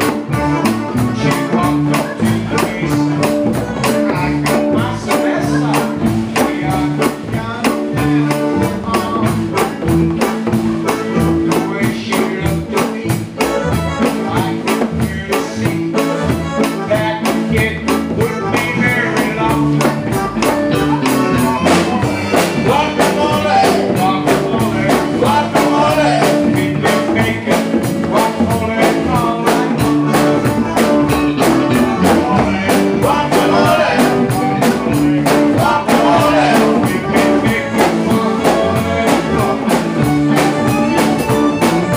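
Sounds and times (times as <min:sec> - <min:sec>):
drum kit with cymbals: 0:00.0 - 0:41.9
electric bass: 0:00.0 - 0:41.9.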